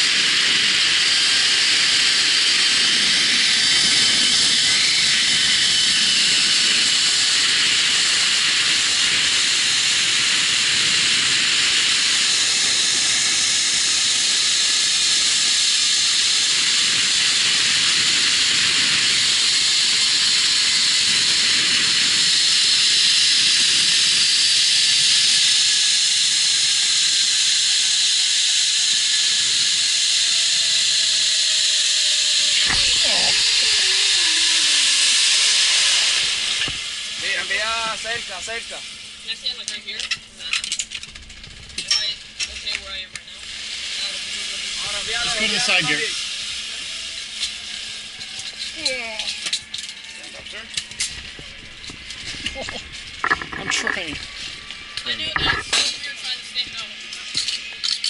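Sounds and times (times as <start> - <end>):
zip-line pulleys hissing on cable: 0.0 - 58.0.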